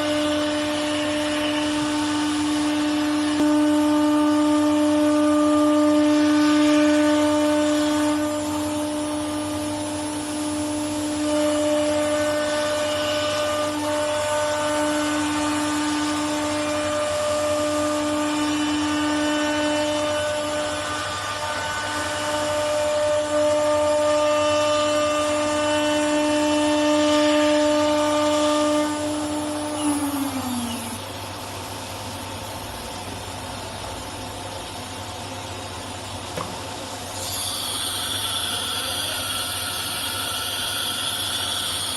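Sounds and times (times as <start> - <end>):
router spindle whine: 0.0 - 33.2, 34.2 - 41.9.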